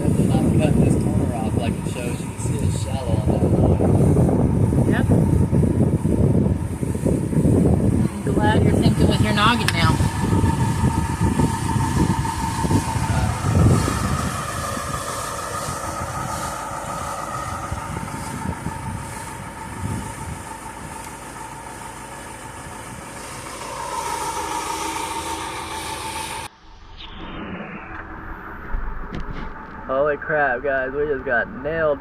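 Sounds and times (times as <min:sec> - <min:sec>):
boat diesel engine running: 0:00.0 - 0:32.0.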